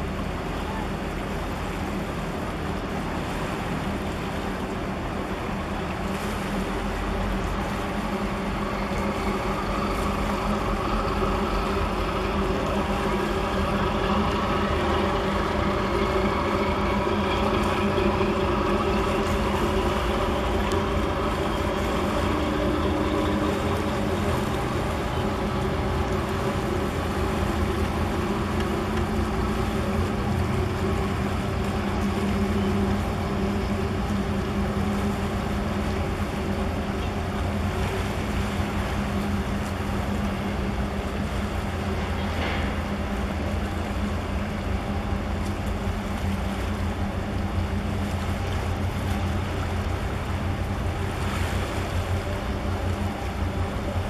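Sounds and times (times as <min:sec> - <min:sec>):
ship diesel engines droning: 0:00.0 - 0:54.0.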